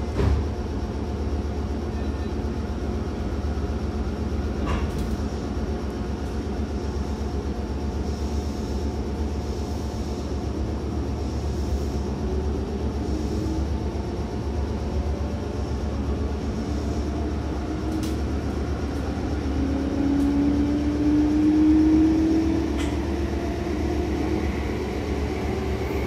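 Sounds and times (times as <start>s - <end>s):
train interior rumble and hum: 0.0s - 26.0s.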